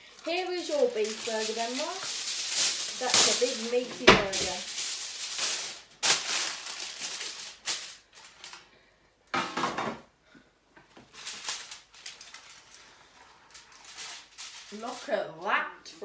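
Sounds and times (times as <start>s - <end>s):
aluminium foil crinkling: 0.0s - 8.8s, 10.9s - 15.4s.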